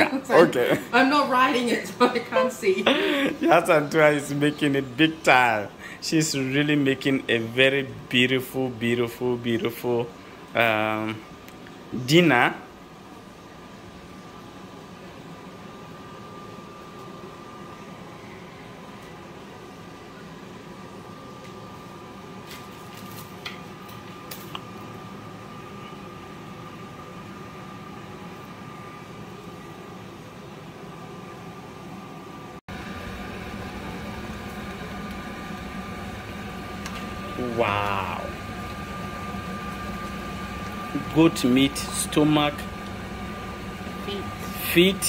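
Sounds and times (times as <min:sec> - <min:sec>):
kitchen fan hum with high whine: 0:00.0 - 0:45.0.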